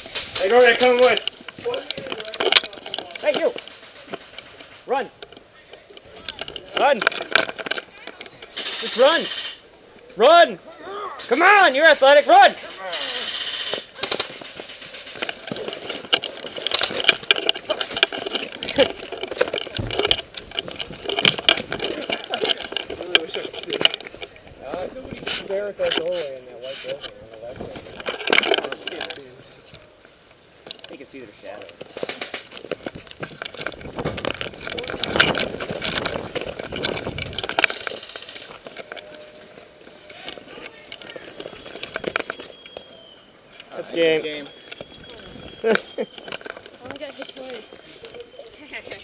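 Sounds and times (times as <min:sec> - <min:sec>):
metal sling swivel rattling: 0:00.0 - 0:09.6, 0:11.2 - 0:29.8, 0:30.6 - 0:42.8, 0:43.4 - 0:49.0.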